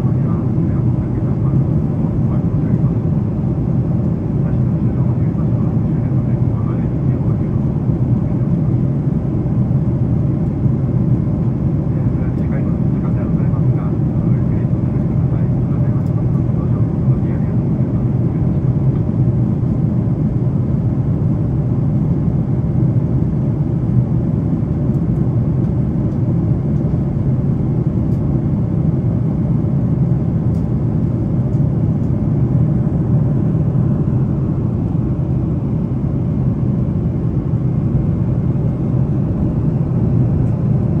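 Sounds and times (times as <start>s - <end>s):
airliner cabin engine rumble: 0.0s - 41.0s.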